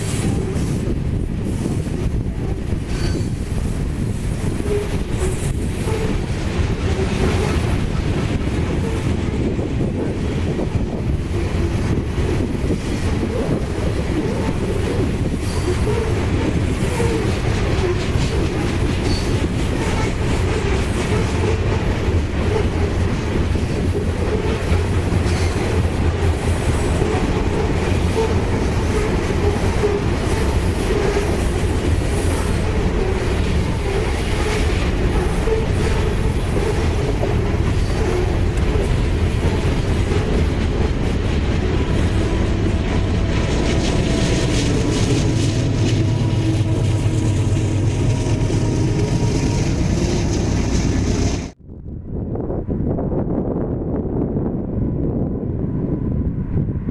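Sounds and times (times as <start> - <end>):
freight train wheels on rails: 0.0 - 51.6.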